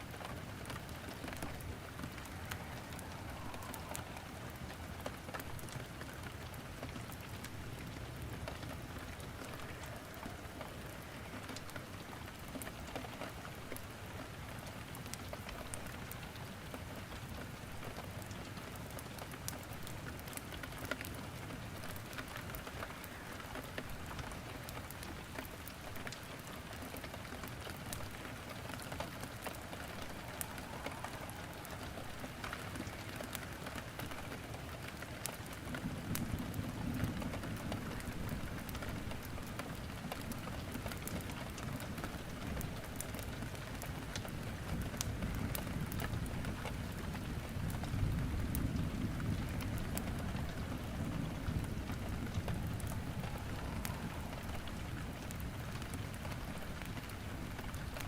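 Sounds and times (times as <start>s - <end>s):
steady rain falling: 0.0s - 58.0s
wood fire crackling: 0.0s - 58.0s.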